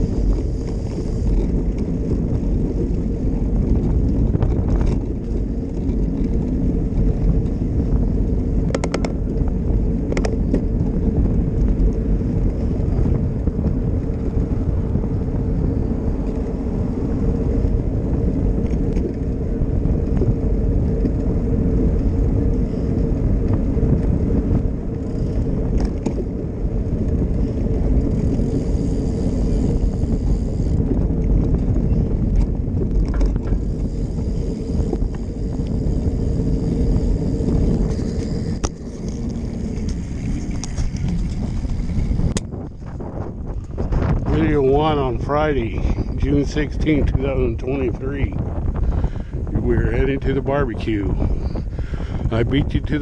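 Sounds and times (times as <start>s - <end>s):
vehicle rumbling: 0.0s - 53.0s
wind and road noise: 0.0s - 53.0s.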